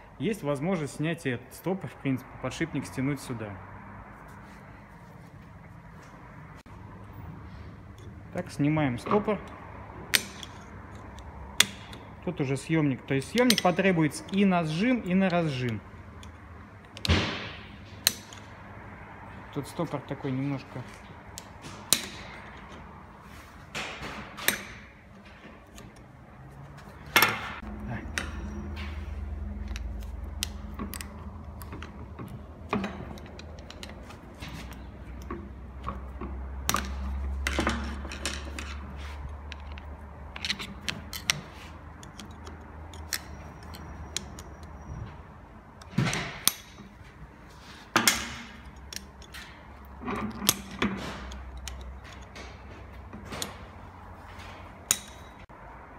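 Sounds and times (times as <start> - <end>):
hand tools clicking and scraping metal: 7.4 - 17.1, 17.8 - 18.6, 19.4 - 55.6.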